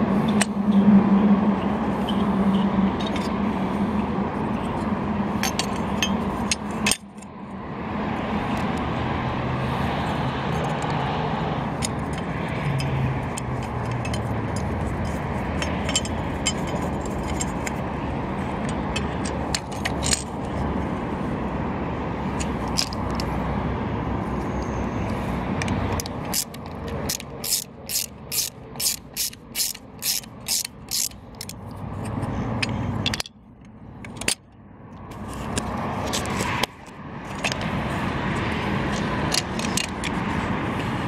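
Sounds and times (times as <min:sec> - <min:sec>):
road traffic passing: 0:00.0 - 0:41.0
small metallic clicks and scrapes: 0:00.2 - 0:00.6, 0:01.6 - 0:03.6, 0:04.5 - 0:07.4, 0:09.7 - 0:21.2, 0:22.2 - 0:23.5, 0:24.3 - 0:41.0.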